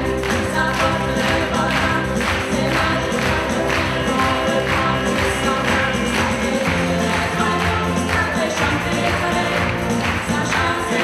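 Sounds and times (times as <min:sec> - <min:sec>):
bass: 0:00.0 - 0:11.0
several voices singing: 0:00.0 - 0:11.0
steady drum beat: 0:00.0 - 0:11.0.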